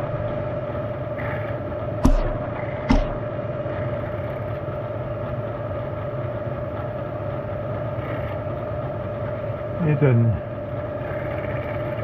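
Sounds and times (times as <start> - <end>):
machine spindle motor hum: 0.0 - 12.0.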